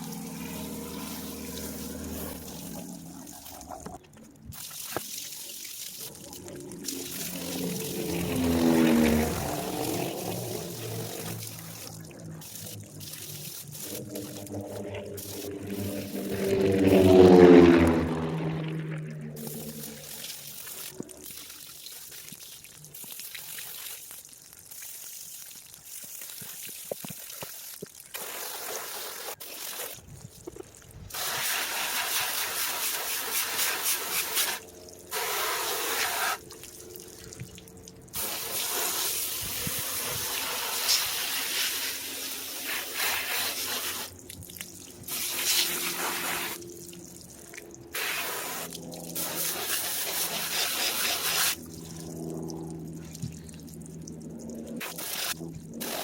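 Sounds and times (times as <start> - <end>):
water running and splashing: 0.0 - 56.0.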